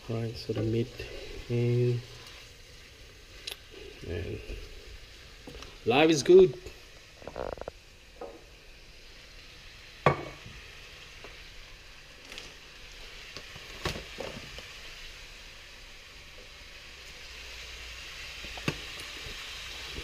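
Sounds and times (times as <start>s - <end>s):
noodles sizzling in a wok: 0.0s - 20.0s.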